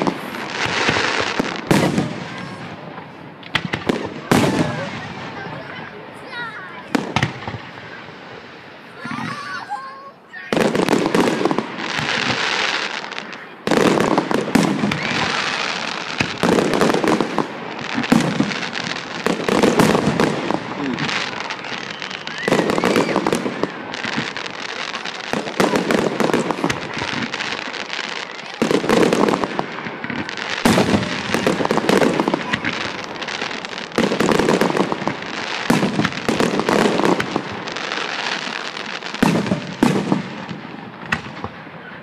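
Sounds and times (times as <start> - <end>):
fireworks crackling: 0.0 - 42.0.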